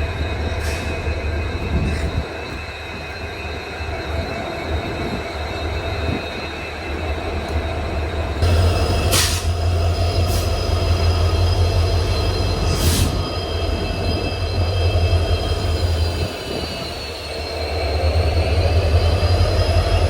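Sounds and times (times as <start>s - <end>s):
train wheels squealing: 0.0s - 20.0s.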